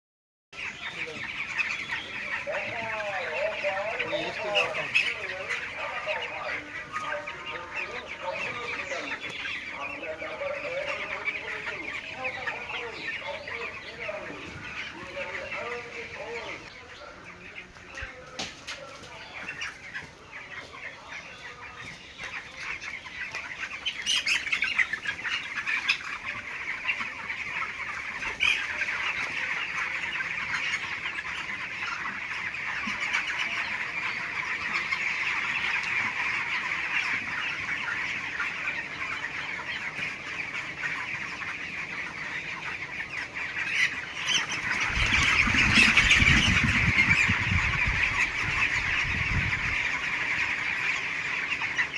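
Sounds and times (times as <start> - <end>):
chicks chirping: 0.6 - 51.9.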